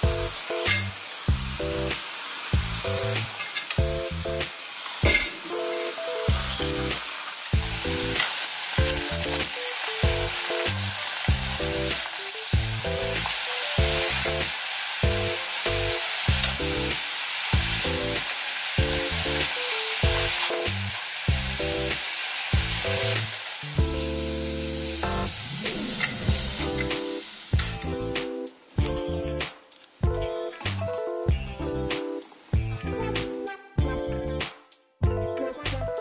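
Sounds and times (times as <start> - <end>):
chicken sizzling in hot oil: 0.0 - 28.9
background music with plucked beat: 0.0 - 36.0.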